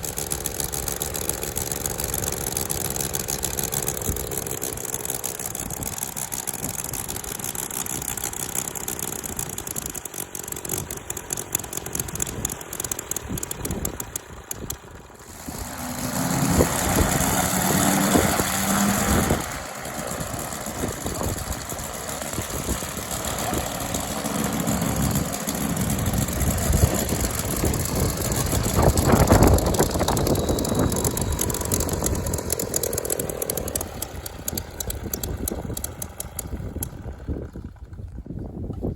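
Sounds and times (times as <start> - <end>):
model aircraft engine running: 0.0 - 38.9.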